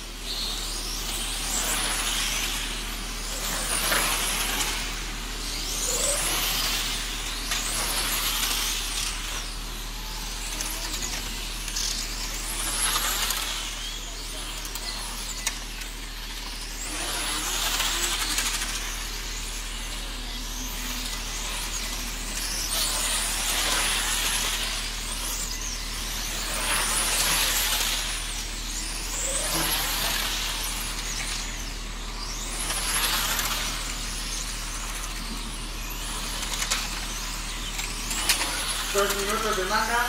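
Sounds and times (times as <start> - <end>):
electric motor whine: 0.0 - 40.0.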